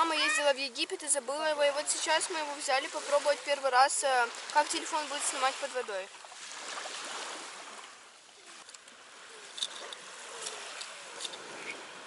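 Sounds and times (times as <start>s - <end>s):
small waves washing ashore: 0.0s - 12.0s.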